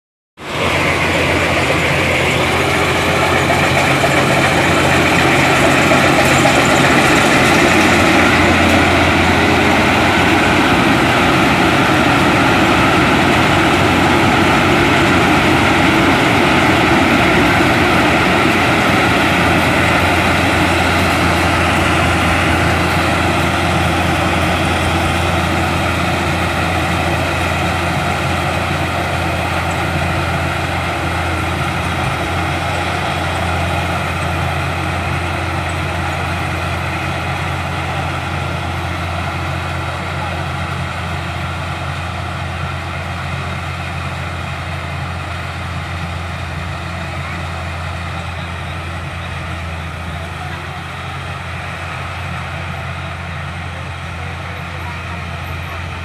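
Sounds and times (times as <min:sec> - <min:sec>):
large engine running: 0:00.4 - 0:56.0.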